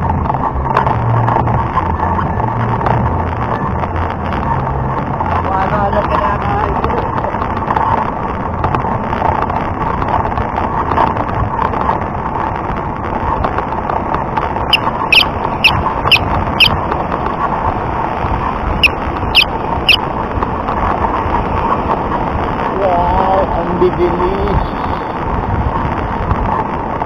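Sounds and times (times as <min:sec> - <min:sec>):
wind and road rush: 0:00.0 - 0:27.0.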